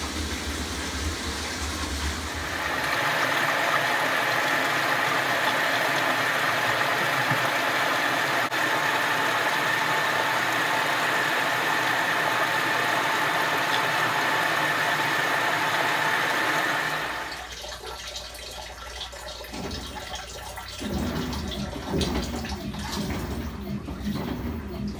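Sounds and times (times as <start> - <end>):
water pouring into washer tub: 0.0 - 24.9
water trickling: 0.0 - 24.9.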